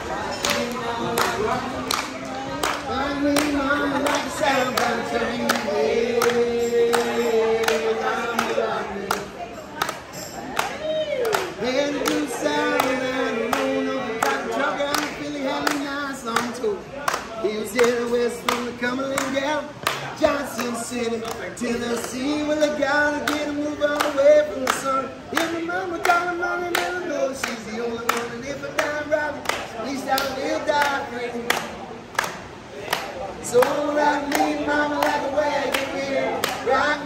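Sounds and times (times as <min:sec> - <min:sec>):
rhythmic handclaps: 0:00.0 - 0:37.0
voices singing held notes: 0:00.0 - 0:37.0.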